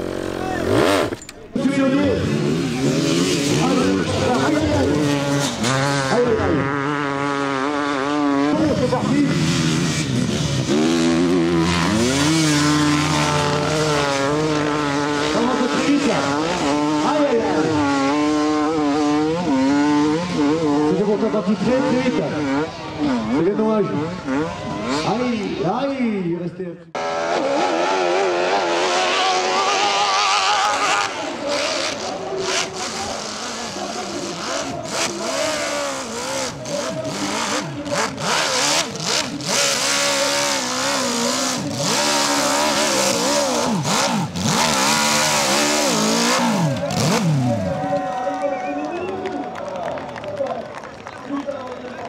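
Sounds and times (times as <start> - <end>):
dirt bike engine revving: 0.0 - 26.0, 27.0 - 49.1.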